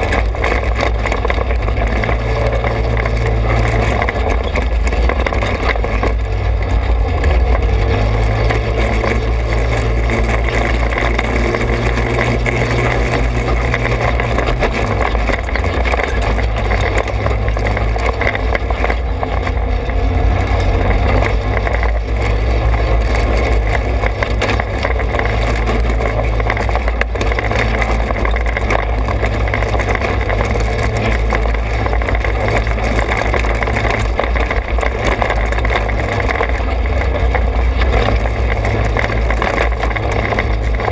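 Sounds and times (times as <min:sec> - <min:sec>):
dirt bike engine running: 0:00.0 - 0:40.9
wind rumble on microphone: 0:00.0 - 0:40.9.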